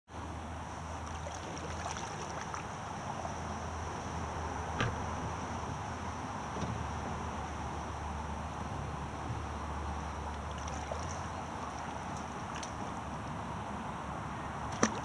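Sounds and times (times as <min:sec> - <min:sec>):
low outdoor rumble: 0:00.1 - 0:15.0
insects droning: 0:00.2 - 0:15.0.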